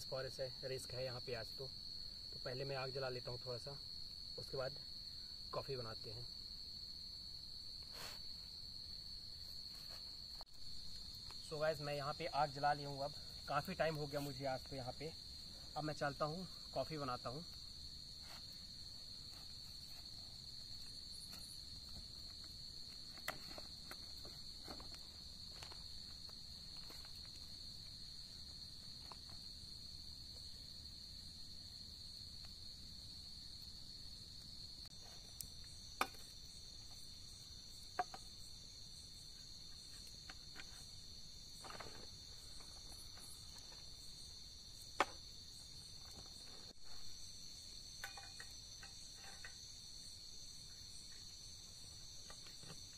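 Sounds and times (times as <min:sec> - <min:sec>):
crickets chirring: 0:00.0 - 0:52.9
higher-pitched insect: 0:00.0 - 0:52.9.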